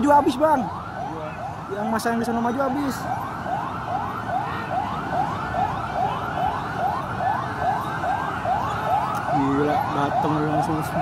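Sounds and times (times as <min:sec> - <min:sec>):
police siren yelping: 0:00.0 - 0:11.0.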